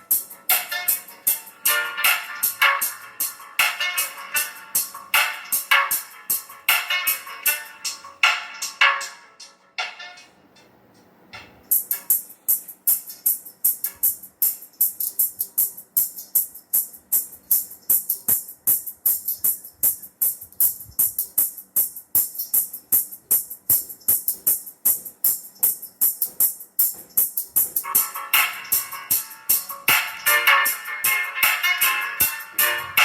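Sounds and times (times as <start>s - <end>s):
mid-range music part: 0.0s - 33.0s.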